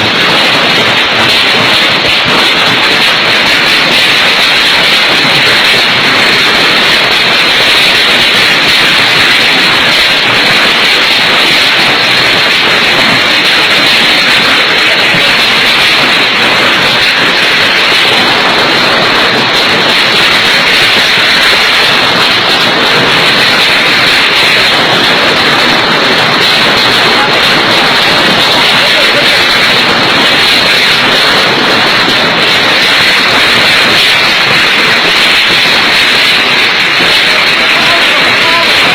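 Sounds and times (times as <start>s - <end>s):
hail and rain falling hard: 0.0s - 38.9s.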